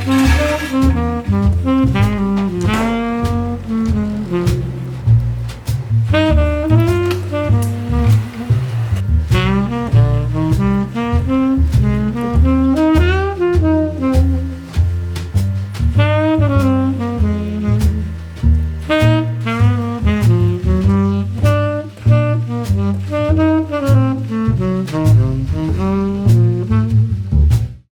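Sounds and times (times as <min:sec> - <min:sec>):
saxophone melody: 0:00.0 - 0:27.2
drum-kit beat: 0:00.0 - 0:27.9
walking bass: 0:00.0 - 0:27.9.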